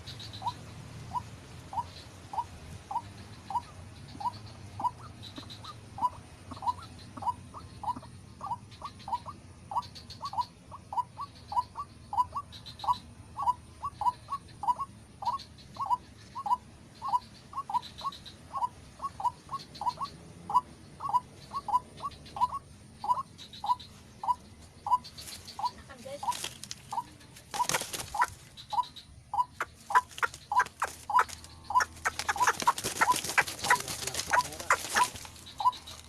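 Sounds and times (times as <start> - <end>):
waterhen calling: 0.0 - 36.0.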